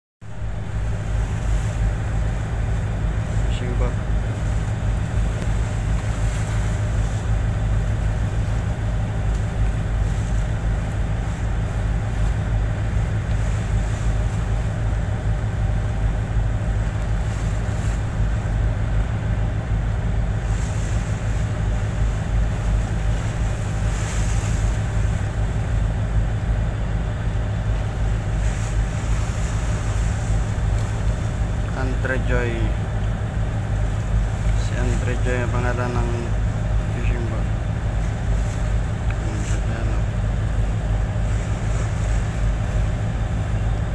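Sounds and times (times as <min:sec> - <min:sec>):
boat engine droning: 0:00.2 - 0:43.9.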